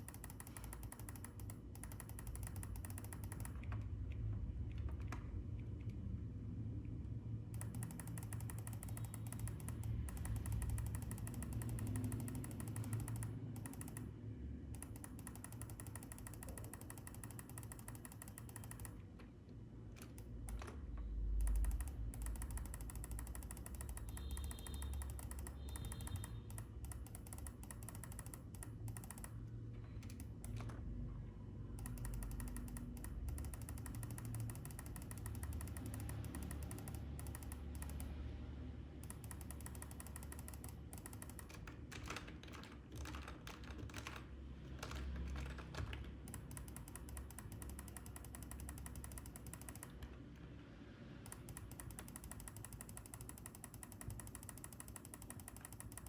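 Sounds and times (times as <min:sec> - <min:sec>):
keyboard keys clicking: 0:00.0 - 0:06.0, 0:07.6 - 0:14.1, 0:14.8 - 0:19.1, 0:20.0 - 0:30.8, 0:31.8 - 0:38.2, 0:39.0 - 0:50.2, 0:51.3 - 0:56.0.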